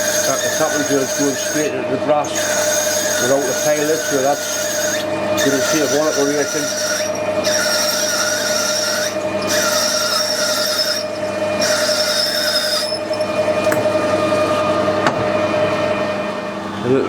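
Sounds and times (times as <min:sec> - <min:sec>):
drill squealing cutting brass: 0:00.0 - 0:14.9
lathe humming: 0:00.0 - 0:17.0.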